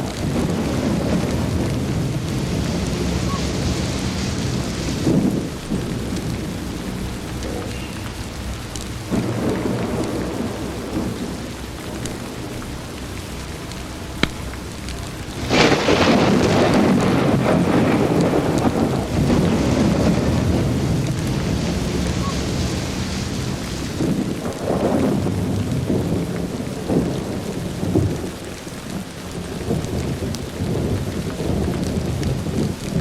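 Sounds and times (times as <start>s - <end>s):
steady rain: 0.0s - 33.0s
thunder rumbling: 0.0s - 33.0s.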